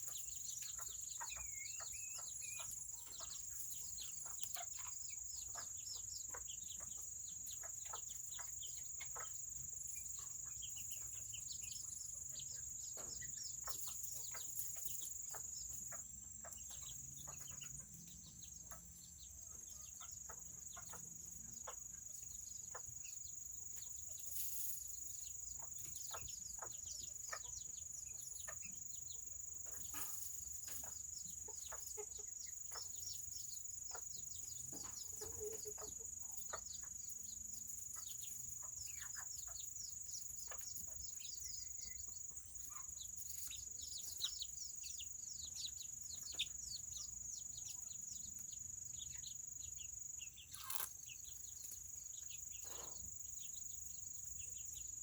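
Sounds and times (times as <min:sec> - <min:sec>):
chickens clucking softly: 0:00.0 - 0:55.0.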